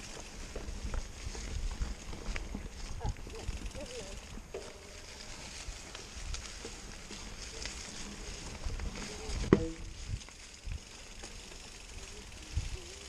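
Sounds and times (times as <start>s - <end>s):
bike tyres rolling over leaves: 0.0s - 13.0s.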